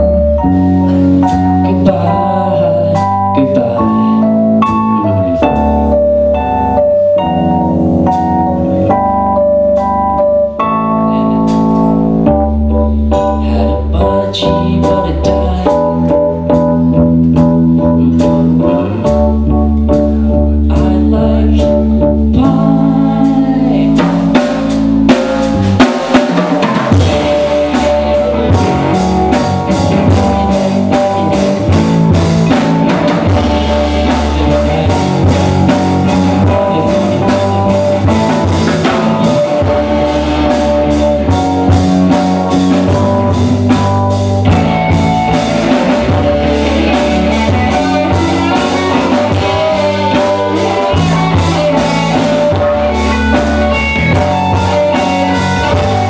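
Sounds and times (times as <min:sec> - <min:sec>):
drum kit: 0:00.0 - 0:56.0
electric bass: 0:00.0 - 0:56.0
electric guitar: 0:00.0 - 0:56.0
keyboard: 0:00.0 - 0:56.0.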